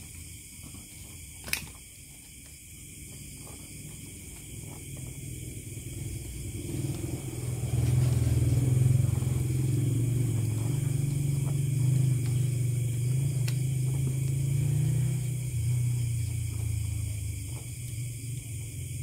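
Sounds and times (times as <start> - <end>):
low engine rumble: 2.6 - 19.0.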